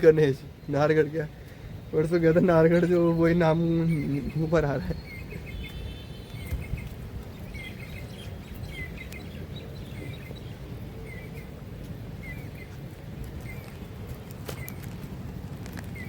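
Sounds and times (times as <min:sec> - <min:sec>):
low outdoor rumble: 0:00.0 - 0:16.0
small bird chirping: 0:00.4 - 0:16.0.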